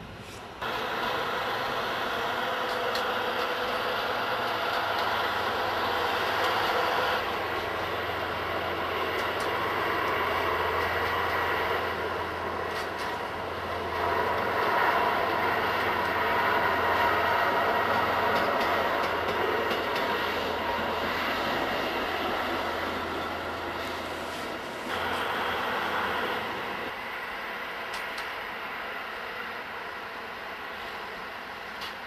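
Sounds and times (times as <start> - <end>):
distant diesel locomotive drone: 0.0 - 32.0.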